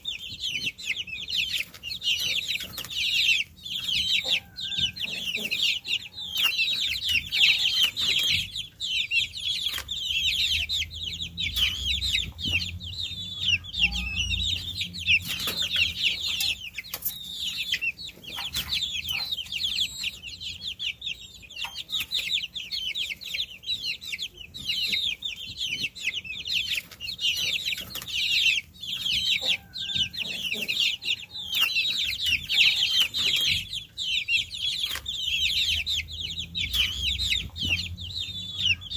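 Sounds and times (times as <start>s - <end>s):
baby chicks chirping: 0.0s - 38.9s.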